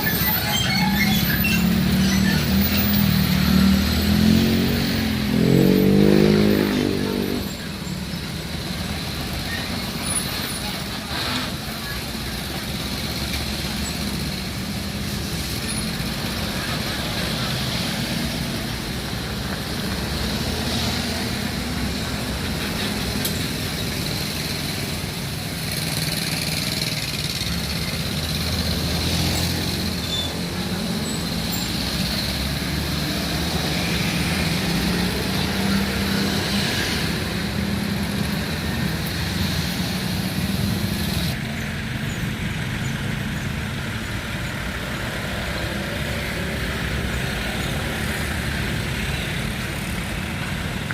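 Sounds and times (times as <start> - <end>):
trucks and cars passing: 0.0 - 50.9.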